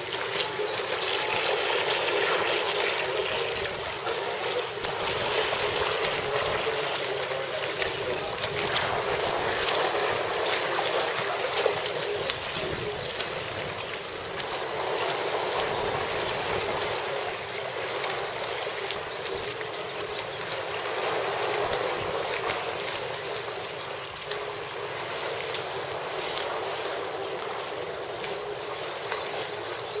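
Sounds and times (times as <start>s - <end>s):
short sharp splashes: 0.0s - 30.0s
swimmers splashing pool water: 0.0s - 30.0s.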